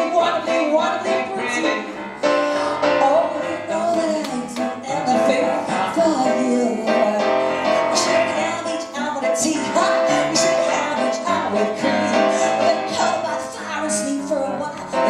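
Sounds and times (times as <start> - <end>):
grand piano: 0.0 - 15.0
woman singing into a microphone: 0.0 - 15.0.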